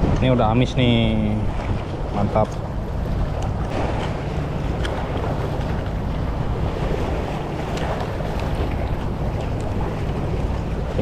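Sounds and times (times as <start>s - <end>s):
sea: 0.0s - 11.0s
wind on microphone: 0.0s - 11.0s.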